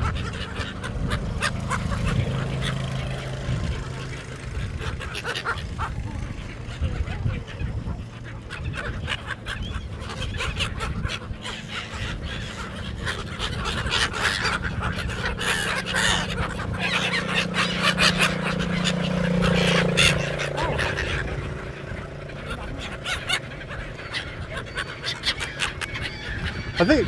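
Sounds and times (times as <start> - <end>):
seagulls squawking: 0.0 - 27.0.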